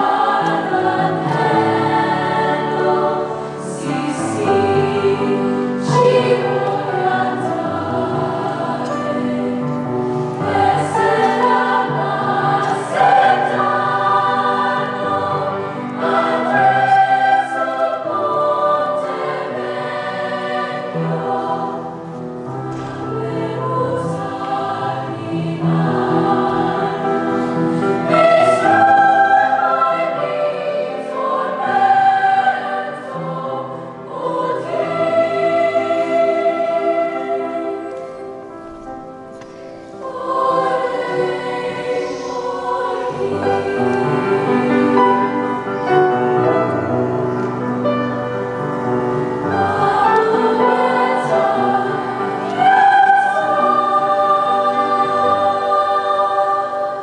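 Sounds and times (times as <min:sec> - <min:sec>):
choir singing: 0:00.0 - 0:57.0
grand piano accompaniment: 0:00.0 - 0:57.0.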